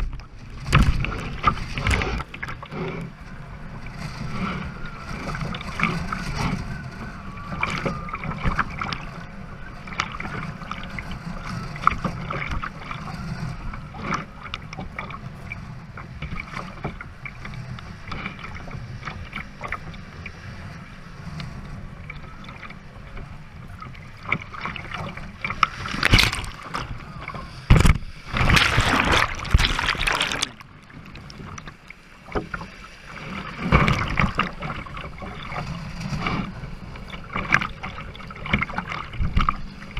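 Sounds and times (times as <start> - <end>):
water slapping against a hull: 0.0 - 20.4, 22.0 - 39.9.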